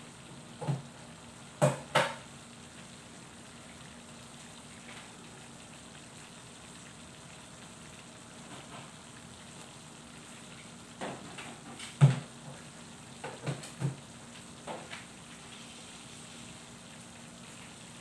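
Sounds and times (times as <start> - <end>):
sauce simmering with faint sizzle: 0.0 - 18.0.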